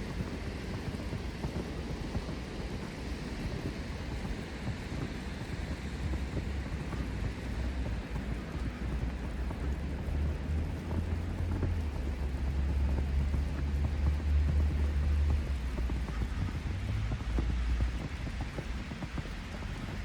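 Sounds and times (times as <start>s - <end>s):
city ambience hiss: 0.0s - 20.0s
wind buffeting microphone: 0.0s - 20.0s.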